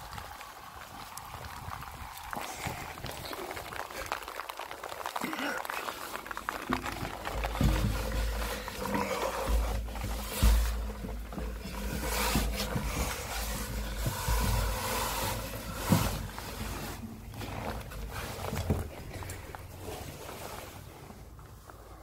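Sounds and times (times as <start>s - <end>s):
rumbling and rustling microphone noise: 0.0s - 5.2s, 5.9s - 22.0s.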